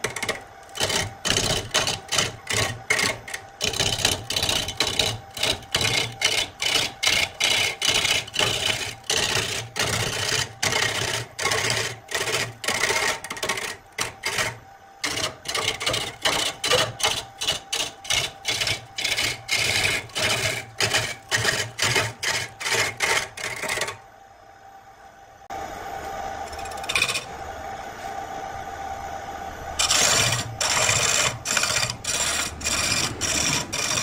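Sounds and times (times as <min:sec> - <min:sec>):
lathe tool cutting wood: 0:00.0 - 0:24.0, 0:26.4 - 0:27.4, 0:29.8 - 0:34.0
hum of spinning lathe: 0:00.0 - 0:34.0.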